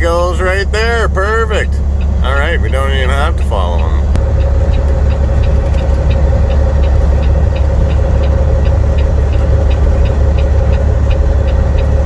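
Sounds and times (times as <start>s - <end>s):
faint light ticking: 0.0s - 12.0s
truck diesel engine droning: 0.0s - 12.0s.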